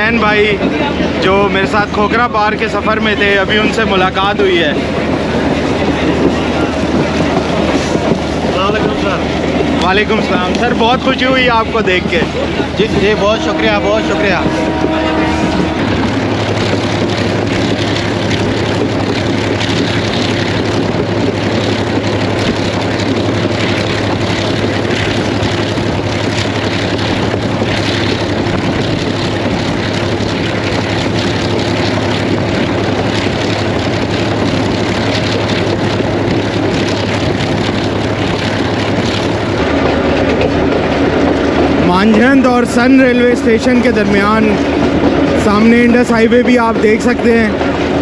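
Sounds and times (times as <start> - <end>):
train wheel and wind noise: 0.0 - 48.0.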